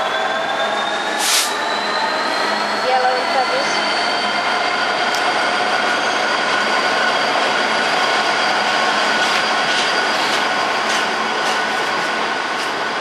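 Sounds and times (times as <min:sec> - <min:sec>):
train wheels rushing on rail: 0:00.0 - 0:13.0.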